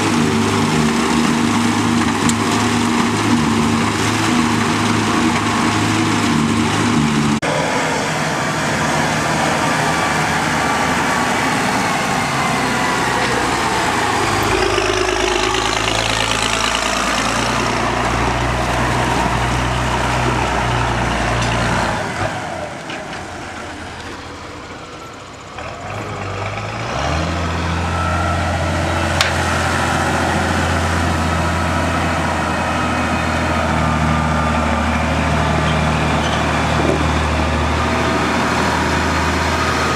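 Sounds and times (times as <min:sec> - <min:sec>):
harvesting machinery: 0:00.0 - 0:39.9
tractor engines running: 0:00.0 - 0:39.9.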